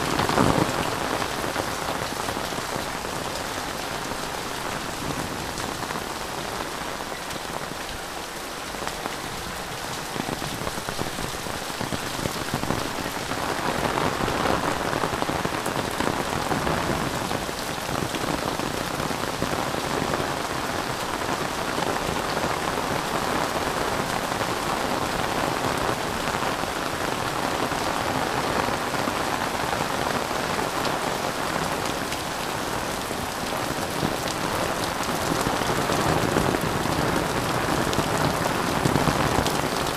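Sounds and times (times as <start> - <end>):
heavy rain on leaves and roofs: 0.0 - 39.9.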